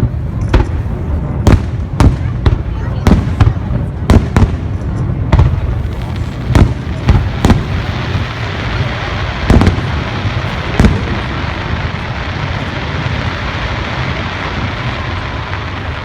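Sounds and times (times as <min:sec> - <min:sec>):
fireworks booming: 0:00.0 - 0:16.0.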